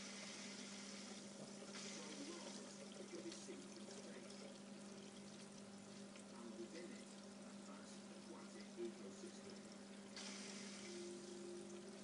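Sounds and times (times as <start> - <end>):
aquarium water trickling: 0.0 - 12.0
constant hum: 0.0 - 12.0.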